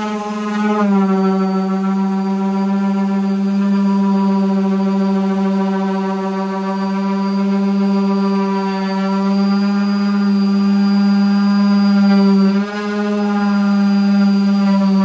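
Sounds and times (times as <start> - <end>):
orbital sander on plywood: 0.0 - 15.0.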